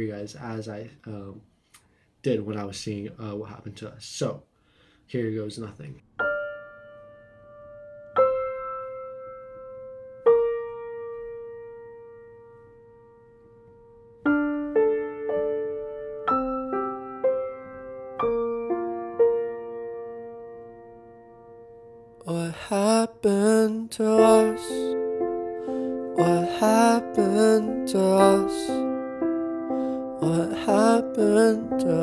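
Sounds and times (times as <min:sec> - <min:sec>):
piano notes and chords: 0:06.1 - 0:32.0.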